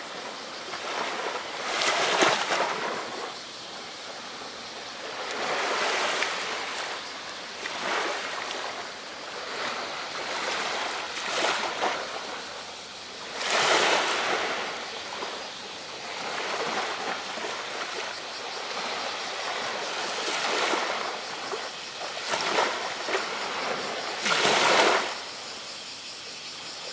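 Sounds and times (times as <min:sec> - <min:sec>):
sea waves breaking on beach: 0:00.0 - 0:26.9.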